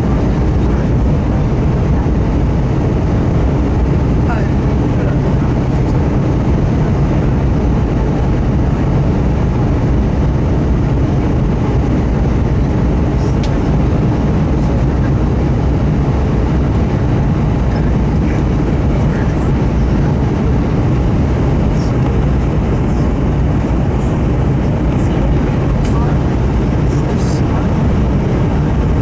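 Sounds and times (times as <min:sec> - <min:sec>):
aircraft cabin engine rumble: 0:00.0 - 0:29.0.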